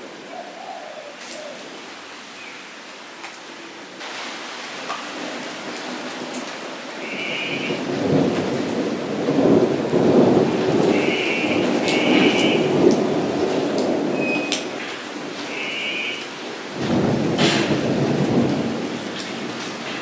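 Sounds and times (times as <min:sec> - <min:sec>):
rain falling into a puddle: 0:03.1 - 0:20.0.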